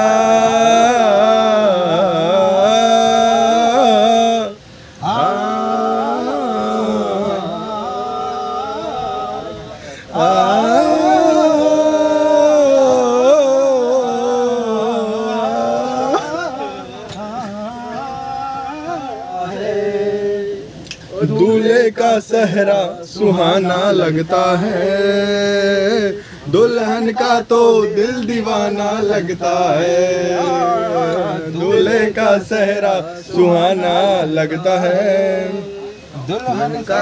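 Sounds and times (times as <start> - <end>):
man singing: 0.0 - 37.0.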